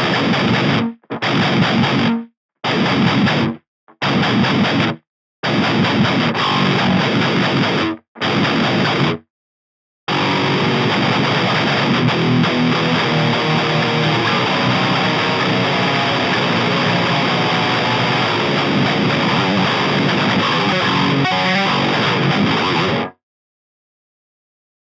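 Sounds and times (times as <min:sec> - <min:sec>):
distorted electric guitar riff: 0:00.0 - 0:09.2, 0:10.1 - 0:23.2.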